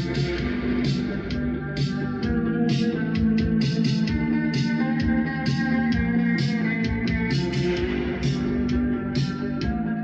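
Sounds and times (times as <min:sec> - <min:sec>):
music with a beat over loudspeakers: 0:00.0 - 0:10.0.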